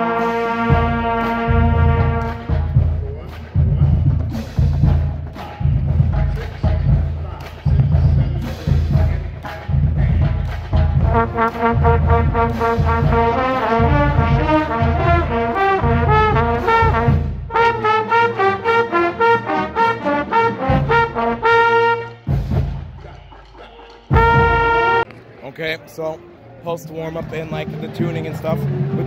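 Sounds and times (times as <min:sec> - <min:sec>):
marching band brass playing: 0:00.0 - 0:25.1.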